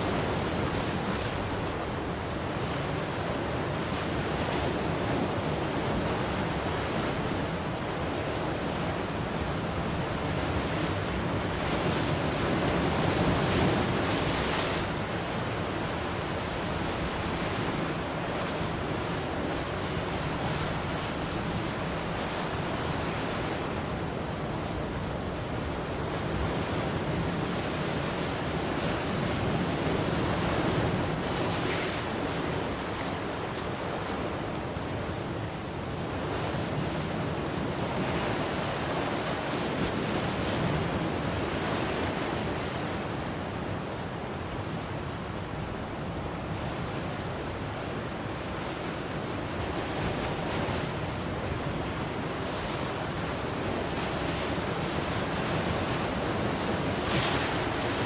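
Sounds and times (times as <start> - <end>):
ocean waves breaking: 8.9 - 58.0.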